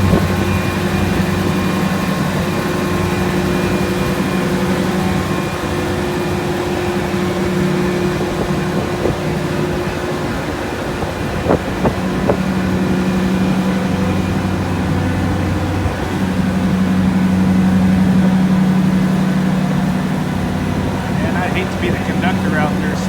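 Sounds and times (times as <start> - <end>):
diesel locomotive engine humming: 0.0 - 23.0.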